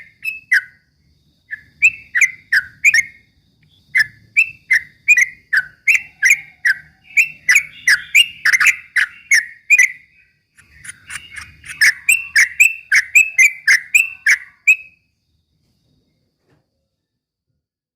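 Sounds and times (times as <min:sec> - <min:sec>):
bird whistled chirps: 0:00.0 - 0:00.8, 0:01.4 - 0:15.1.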